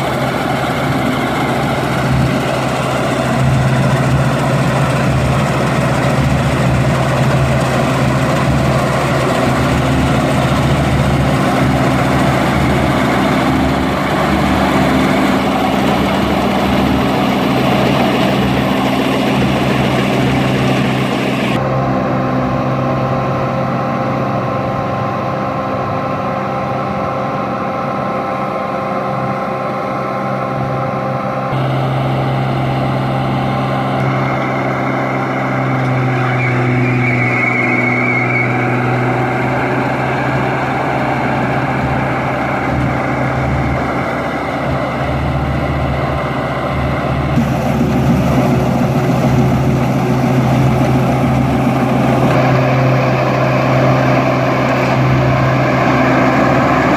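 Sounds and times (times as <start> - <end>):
combine harvester engine humming: 0.0 - 56.9.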